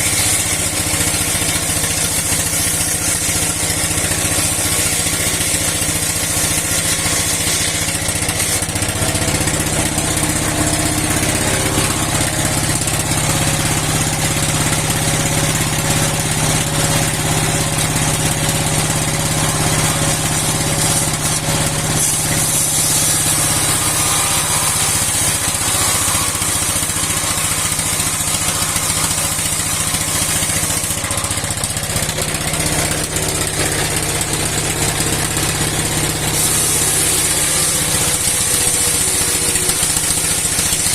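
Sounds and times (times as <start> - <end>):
stationary engine running steadily: 0.0 - 40.9.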